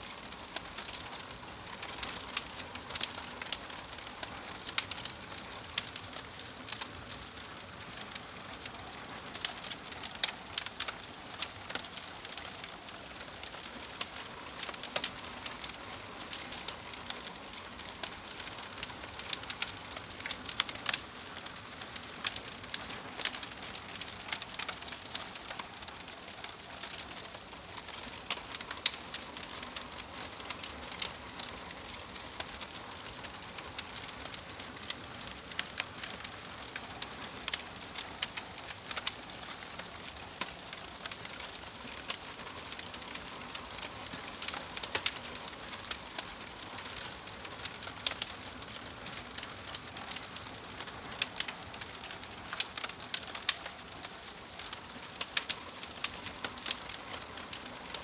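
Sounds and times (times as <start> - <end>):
crackling fire: 0.0 - 58.0.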